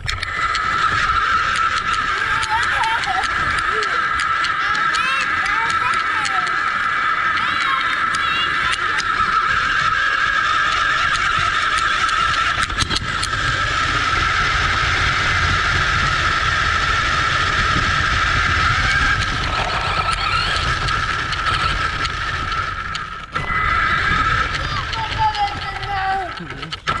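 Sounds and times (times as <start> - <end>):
clicks: 0.0 - 13.6, 18.8 - 27.0
rc buggy motor whine: 0.0 - 27.0
tyres rumbling on gravel: 0.0 - 27.0.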